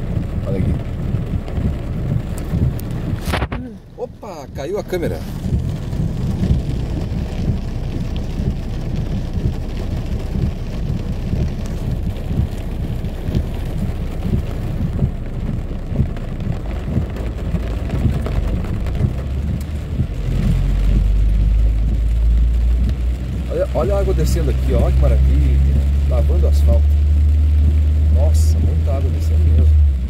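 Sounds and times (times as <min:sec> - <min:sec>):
heavy rain on car roof: 0:00.0 - 0:30.0
low rumble: 0:00.0 - 0:30.0.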